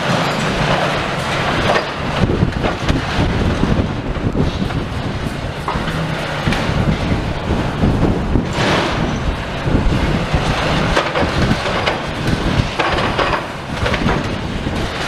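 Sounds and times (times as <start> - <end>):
demolition machinery rumble: 0.0 - 15.0
wind buffeting microphone: 0.0 - 15.0.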